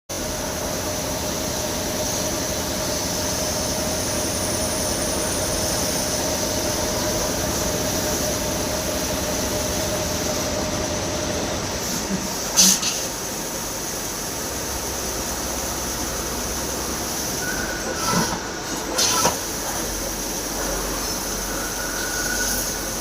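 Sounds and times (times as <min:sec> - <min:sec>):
lathe machine drone and whine: 0:00.2 - 0:23.0.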